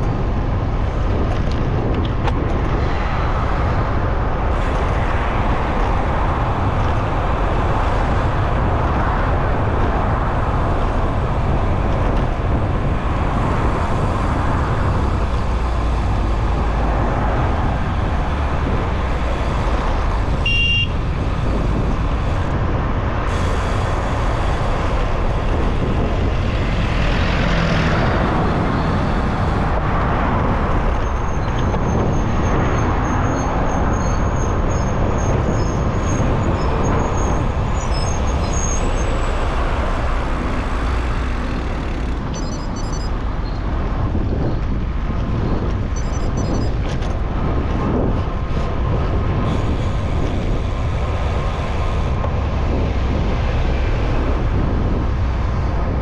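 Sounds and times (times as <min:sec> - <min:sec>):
city road traffic rumble: 0:00.0 - 0:56.0.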